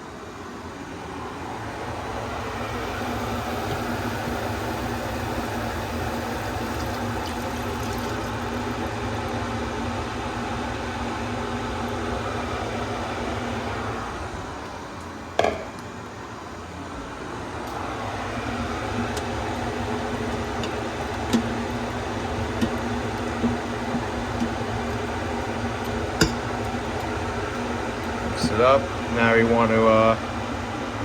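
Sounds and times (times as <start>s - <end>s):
mechanical hum and hiss: 0.0s - 31.0s.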